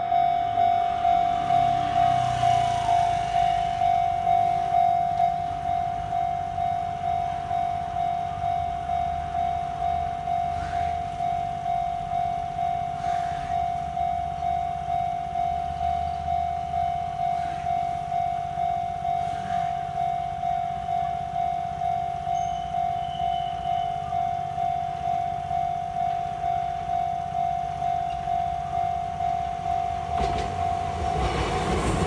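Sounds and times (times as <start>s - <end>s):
level crossing warning bell: 0.0s - 32.0s.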